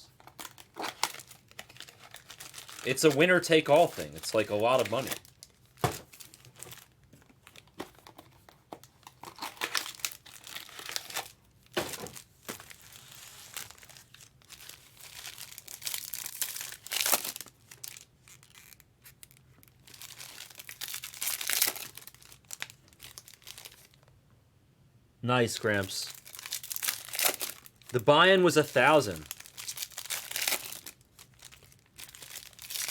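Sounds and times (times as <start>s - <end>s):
foil wrappers crinkling and tearing: 0.1s - 8.2s, 8.8s - 24.0s, 26.0s - 32.9s.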